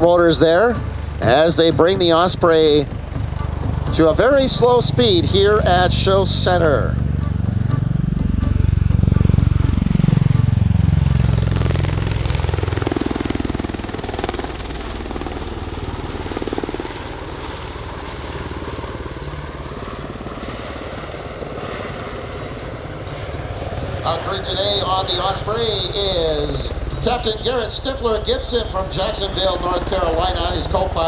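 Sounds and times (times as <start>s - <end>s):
aircraft rotors thumping: 0.0s - 31.0s.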